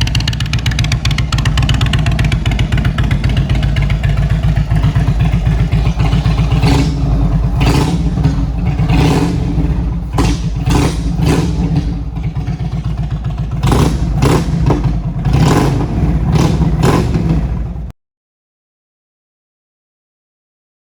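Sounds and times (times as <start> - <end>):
motorcycle engine throttle blips: 0.0 - 17.9.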